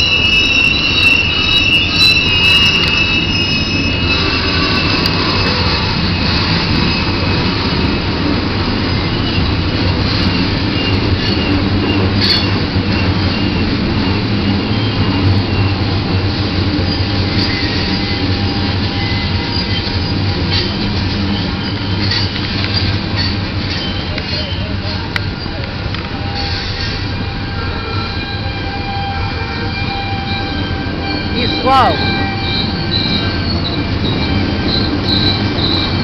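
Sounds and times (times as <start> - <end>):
train wheels rumbling on rail: 0.0 - 36.0
wheel squeal: 0.0 - 36.0.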